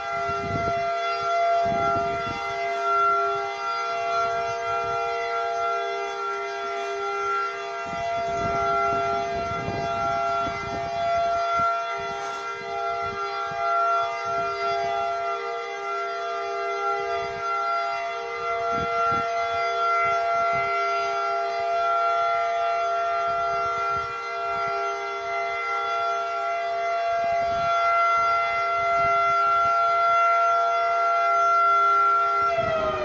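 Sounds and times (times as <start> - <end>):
tornado warning siren: 0.0 - 33.0.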